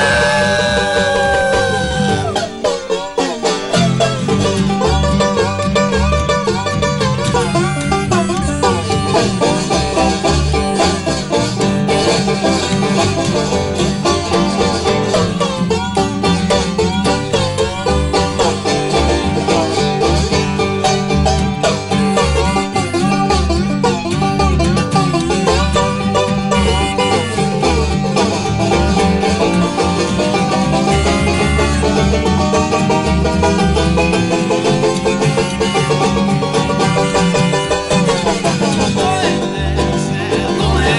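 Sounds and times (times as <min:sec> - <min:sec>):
acoustic guitar: 0:00.0 - 0:40.9
banjo picking: 0:00.0 - 0:40.9
harmonica melody: 0:00.0 - 0:40.9
upright bass line: 0:00.0 - 0:40.9.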